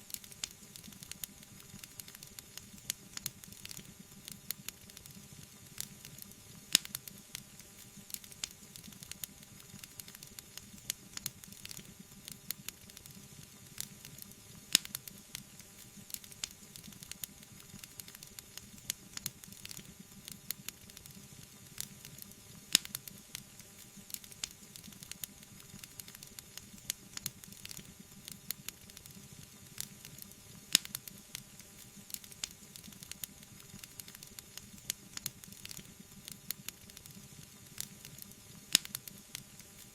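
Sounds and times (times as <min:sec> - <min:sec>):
soft steady hiss: 0:00.0 - 0:39.9
fire popping: 0:00.1 - 0:21.2, 0:24.0 - 0:39.4
wood fire crackling: 0:00.1 - 0:39.9.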